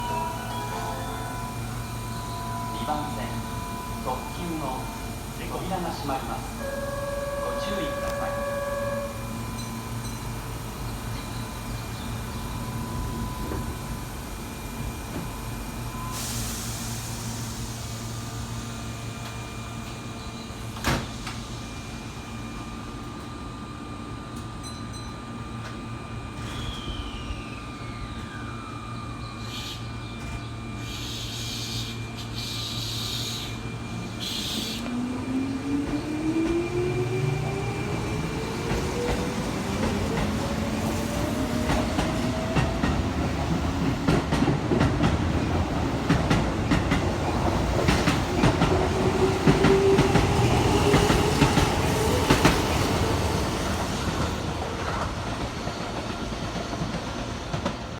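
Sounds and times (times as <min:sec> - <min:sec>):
train low hum: 0:00.0 - 0:57.9.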